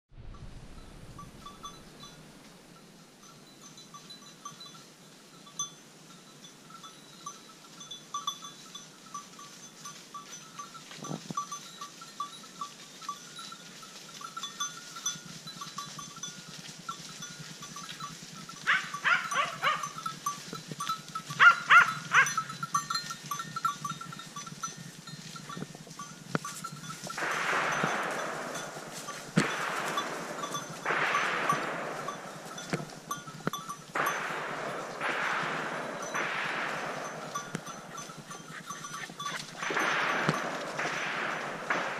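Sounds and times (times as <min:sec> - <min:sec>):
sheep bells ringing: 0:00.3 - 0:41.9.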